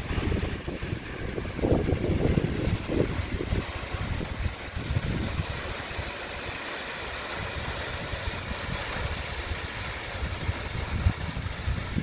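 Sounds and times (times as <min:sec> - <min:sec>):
wind buffeting microphone: 0:00.0 - 0:06.6, 0:07.2 - 0:12.0
waterfall rushing: 0:00.0 - 0:12.0.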